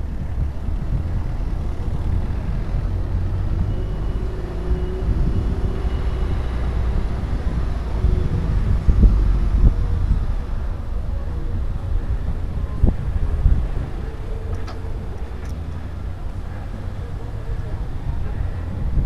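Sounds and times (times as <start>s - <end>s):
low road rumble: 0.0s - 19.0s
wind buffeting microphone: 0.0s - 19.0s.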